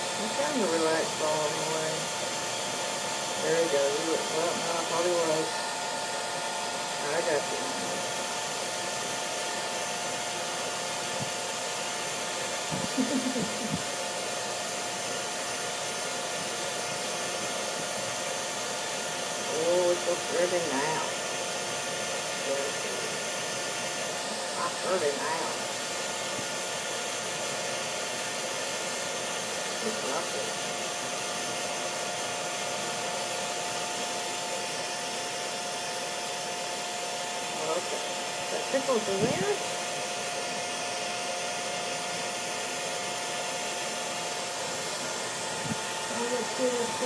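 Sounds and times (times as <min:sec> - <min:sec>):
hair dryer blowing: 0:00.0 - 0:47.0.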